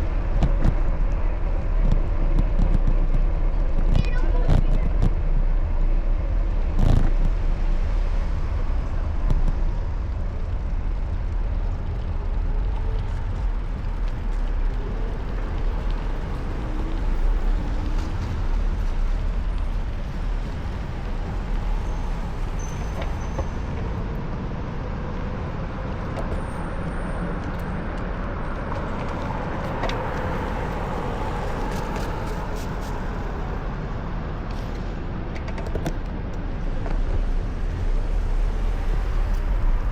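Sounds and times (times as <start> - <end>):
road traffic: 0.0 - 39.9
wind rumble on microphone: 0.0 - 39.9.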